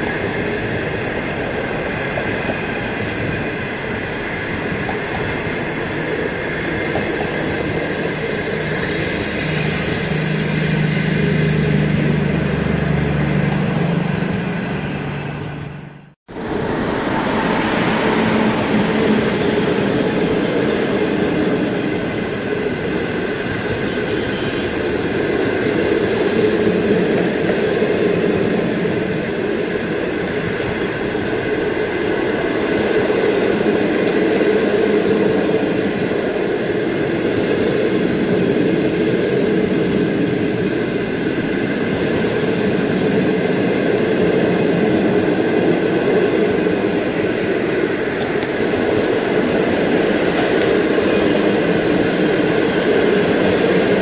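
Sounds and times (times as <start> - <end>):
passenger train passing: 0.0 - 54.0.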